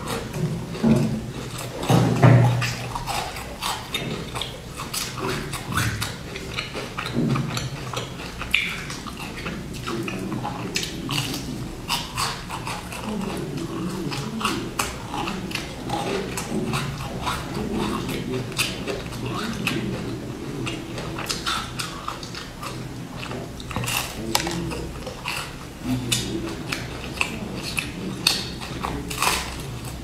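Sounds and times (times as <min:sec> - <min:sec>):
person chewing crunchy biscuit: 0:00.0 - 0:30.0
wet mouth sounds: 0:00.0 - 0:30.0.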